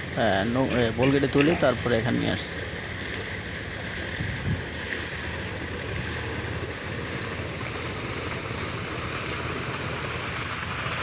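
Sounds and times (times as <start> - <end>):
steady low hum: 0.0 - 11.0
water and sand rushing down channel: 0.0 - 11.0.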